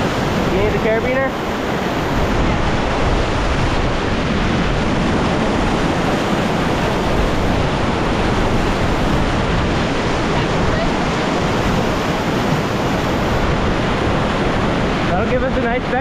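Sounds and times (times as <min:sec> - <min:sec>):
river rapid roaring: 0:00.0 - 0:16.0.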